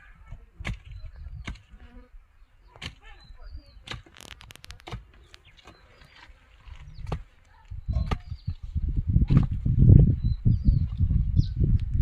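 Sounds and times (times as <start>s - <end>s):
knocks and scrapes in soil: 0.0s - 12.0s.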